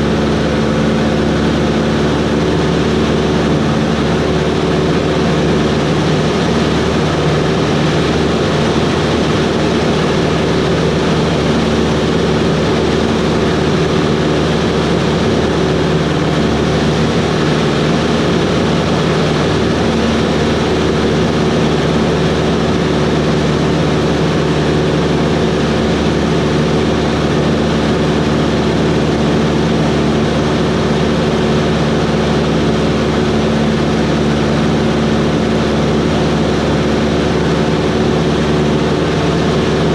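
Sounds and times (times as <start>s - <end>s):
small plane engine droning: 0.0s - 39.9s.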